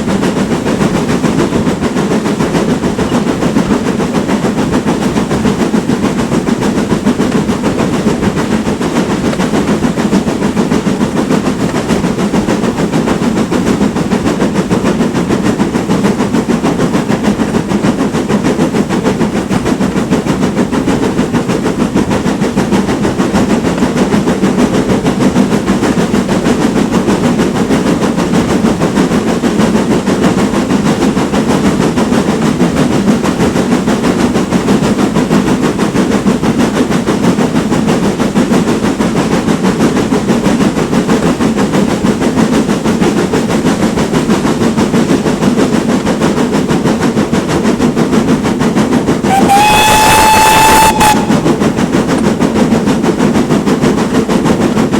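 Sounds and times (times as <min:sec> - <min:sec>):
steam locomotive working: 0:00.0 - 0:54.9
train wheels on rails: 0:00.0 - 0:54.9.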